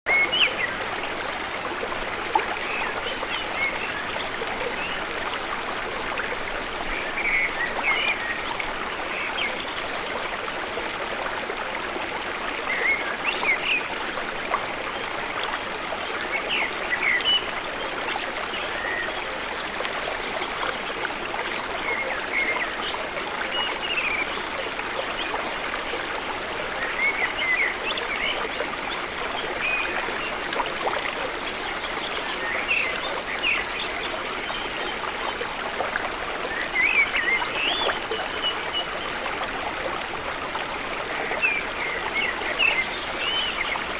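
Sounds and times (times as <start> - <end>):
stream flowing: 0.1 - 43.9.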